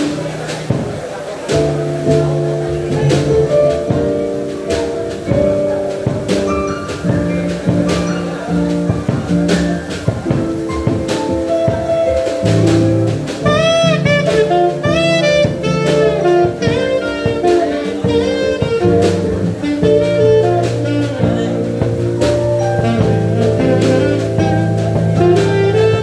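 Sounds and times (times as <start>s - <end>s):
drums: 0.0s - 26.0s
keyboard: 0.0s - 26.0s
saxophone jazz solo: 0.0s - 26.0s
upright bass: 0.0s - 26.0s.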